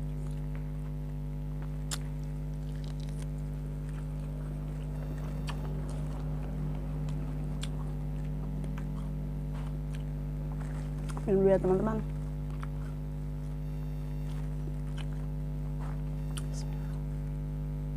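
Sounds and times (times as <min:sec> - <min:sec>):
person chewing food: 0:00.0 - 0:11.3, 0:12.0 - 0:17.4
electrical hum: 0:00.0 - 0:17.9.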